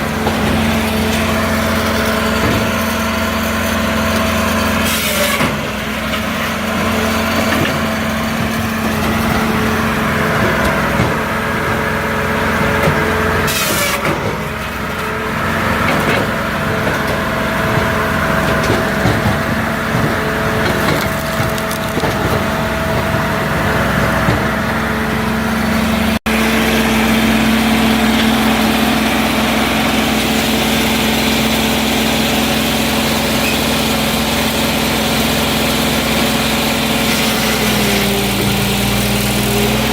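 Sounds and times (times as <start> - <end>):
diesel engine running: 0.0 - 39.9
logs being cut and split: 0.0 - 39.9.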